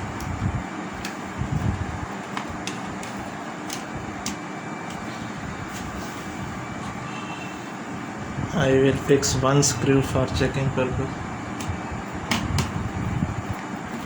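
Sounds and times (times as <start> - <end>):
steady background hum and hiss: 0.0 - 14.0.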